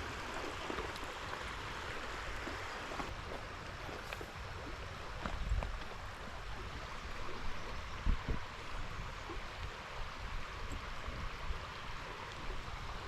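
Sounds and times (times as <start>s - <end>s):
creek water over rocks: 0.0s - 13.0s.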